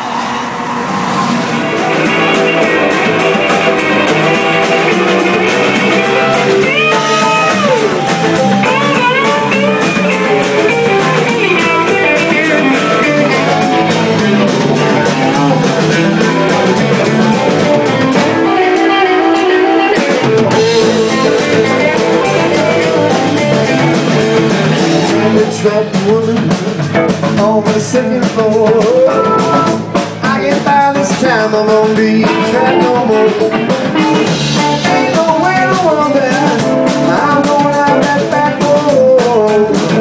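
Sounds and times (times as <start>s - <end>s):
lead guitar bending notes: 0.0s - 27.4s, 28.5s - 30.5s, 31.3s - 39.7s
live rock band instrumental: 1.1s - 40.0s
cymbals keeping a beat: 1.5s - 40.0s.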